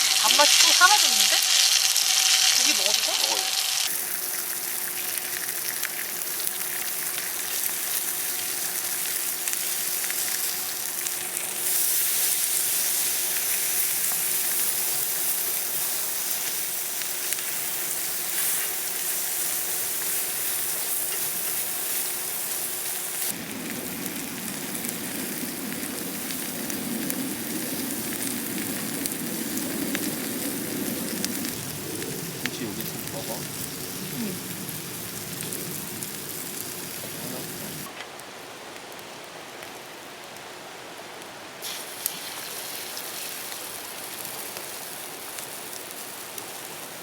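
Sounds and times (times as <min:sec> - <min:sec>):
meat sizzling on a griddle: 0:00.0 - 0:37.9, 0:41.6 - 0:47.0.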